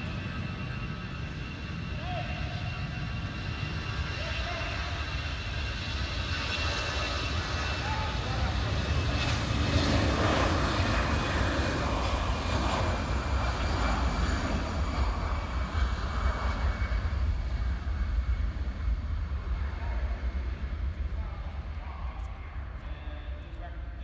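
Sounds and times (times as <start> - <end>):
faint high jet whine: 0.0 - 24.0
jet airliner roar: 0.0 - 24.0.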